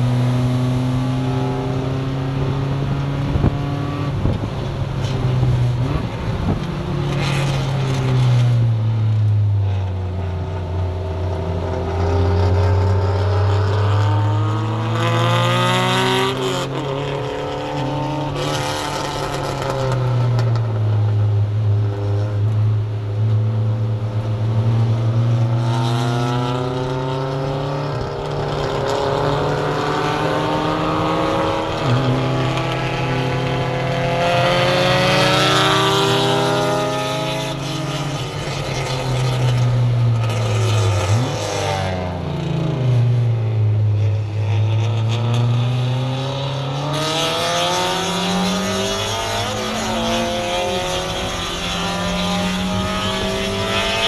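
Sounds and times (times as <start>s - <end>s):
race car engine revving: 0.0s - 20.9s, 21.5s - 54.0s.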